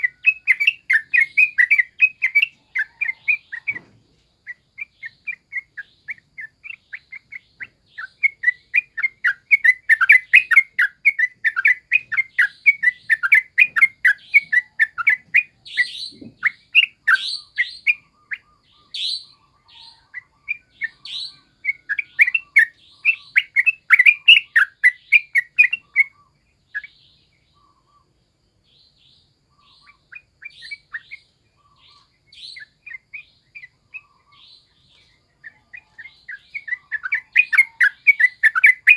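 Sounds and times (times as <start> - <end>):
bird singing chirped notes: 0.0 - 38.9.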